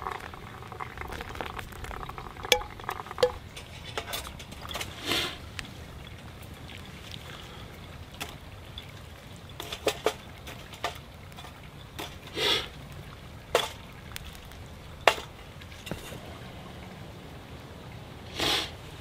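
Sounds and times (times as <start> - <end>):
wood fire crackling and popping: 0.0 - 16.2.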